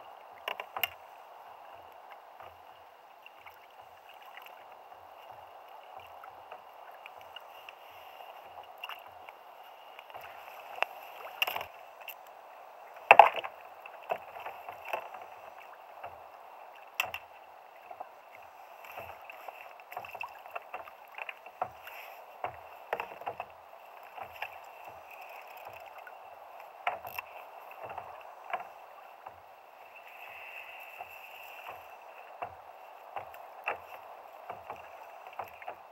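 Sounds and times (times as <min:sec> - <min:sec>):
small waves lapping on kayak hull: 0:00.0 - 0:35.9.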